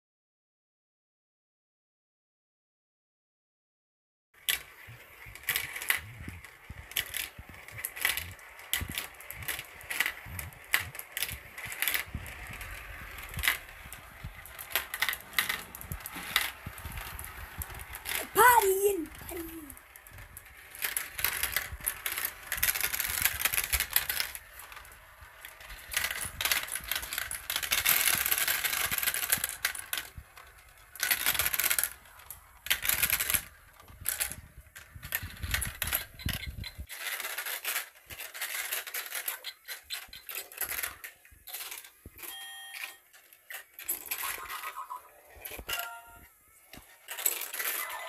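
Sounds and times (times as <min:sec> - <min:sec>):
marbles rattling through plastic run: 0:04.4 - 0:42.2, 0:42.8 - 0:46.2, 0:47.0 - 0:48.0.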